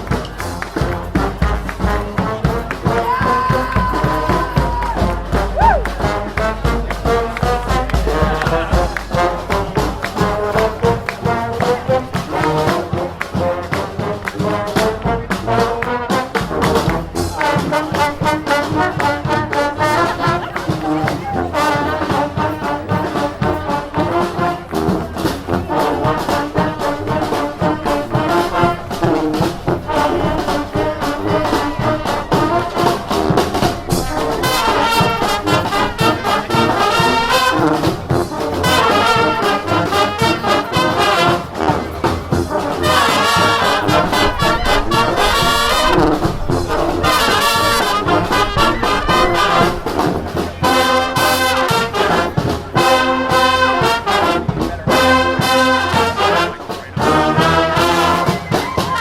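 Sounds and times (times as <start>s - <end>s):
brass horns playing tune: 0.0s - 59.0s
steady drum beat: 0.0s - 59.0s.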